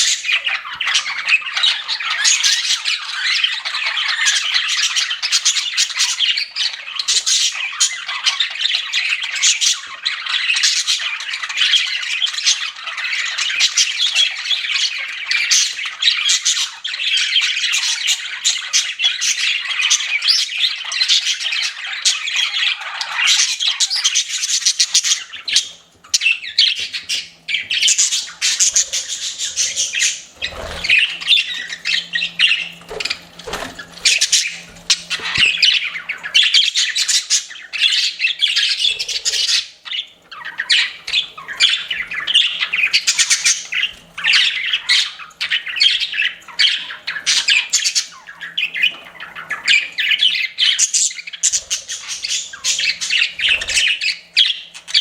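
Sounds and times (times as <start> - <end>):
budgerigars chirping and warbling: 0.0 - 55.0.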